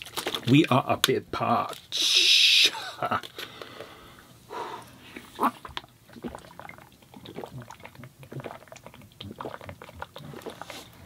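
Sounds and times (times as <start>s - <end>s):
person drinking with gulps: 1.6s - 11.0s.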